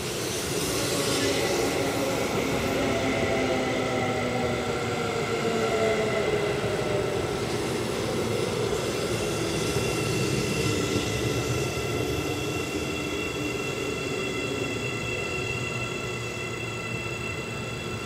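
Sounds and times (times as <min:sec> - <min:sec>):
electric train rumbling: 0:00.0 - 0:18.0
high-pitched train whines: 0:00.0 - 0:18.0.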